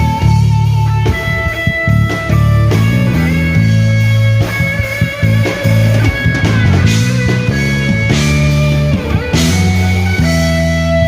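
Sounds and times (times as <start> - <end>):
electric bass line: 0.0 - 11.0
guitar: 0.0 - 11.0
held keyboard notes: 0.0 - 11.0
drum hits: 1.1 - 10.2.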